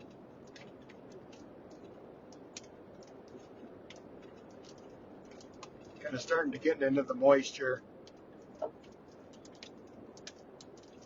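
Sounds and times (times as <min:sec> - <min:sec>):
raindrops ticking on windshield: 0:00.0 - 0:11.0
road noise hum: 0:00.0 - 0:11.0.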